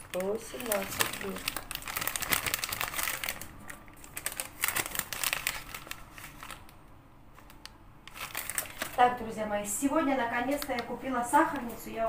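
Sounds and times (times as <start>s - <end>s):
plastic bag crinkling: 0.0s - 6.8s, 7.4s - 9.4s, 10.2s - 11.9s.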